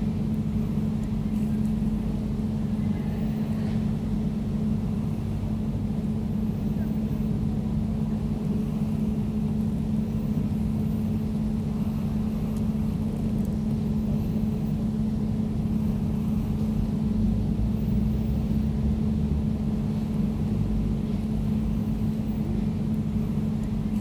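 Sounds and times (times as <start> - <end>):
air conditioner humming: 0.0 - 24.0.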